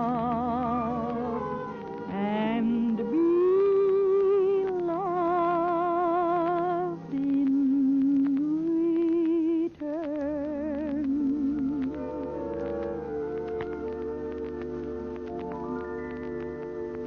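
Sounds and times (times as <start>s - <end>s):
soft accompaniment: 0.0s - 17.0s
woman singing with vibrato: 0.0s - 17.0s.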